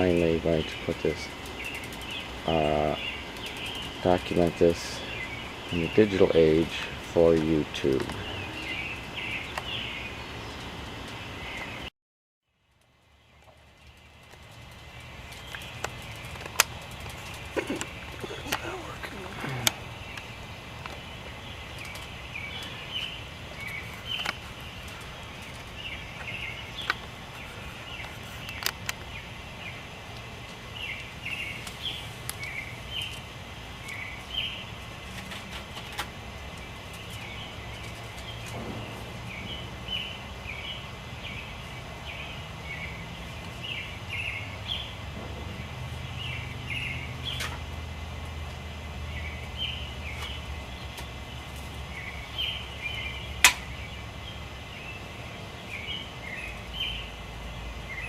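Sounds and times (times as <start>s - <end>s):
songbirds chirping: 0.0s - 11.9s, 12.5s - 58.0s.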